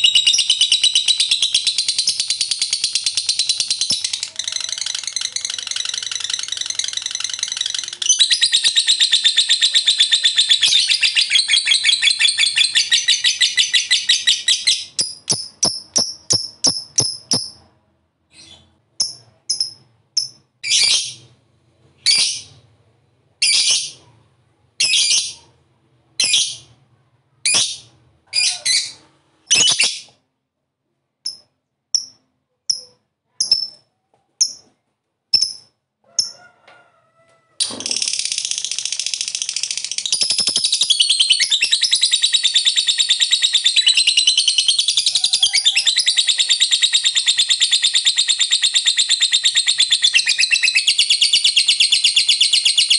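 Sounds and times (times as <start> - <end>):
lovebird chattering trill and chirps: 0.0 - 17.6, 18.4 - 21.2, 27.5 - 30.1, 31.2 - 34.6, 35.3 - 36.3, 37.8 - 52.9.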